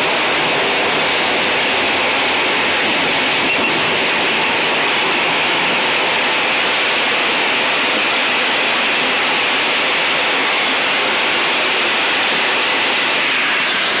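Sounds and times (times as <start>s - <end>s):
truck cab wind and road noise: 0.0s - 14.0s.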